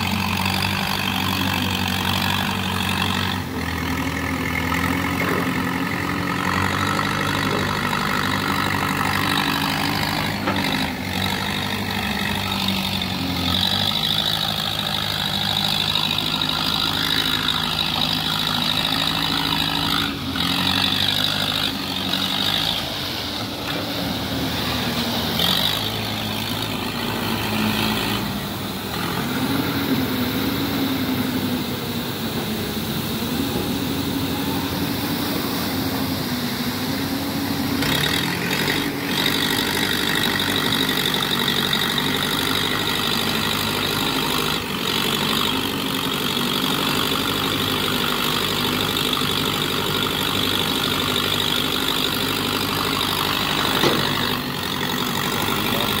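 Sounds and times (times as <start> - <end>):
heavy machinery engines running: 0.0 - 56.0.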